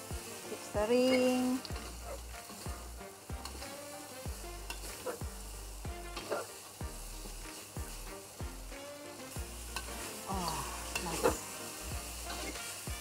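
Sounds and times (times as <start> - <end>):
meat sizzling: 0.0 - 13.0
metal spatula scraping a wok: 0.2 - 7.6, 8.7 - 13.0.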